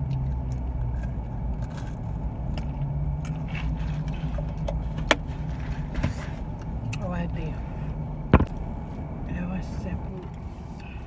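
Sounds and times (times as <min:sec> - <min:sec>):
car engine hum inside cabin: 0:00.0 - 0:11.0.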